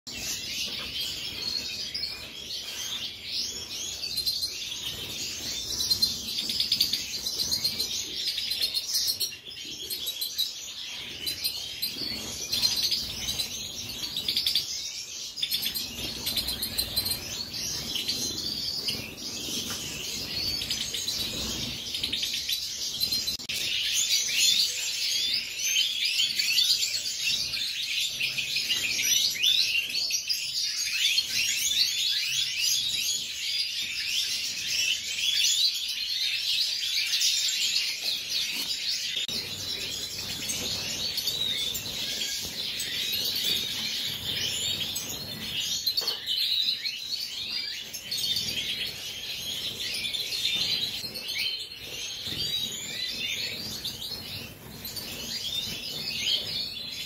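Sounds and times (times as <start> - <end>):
goldfinches chirping and trilling: 0.1 - 57.0.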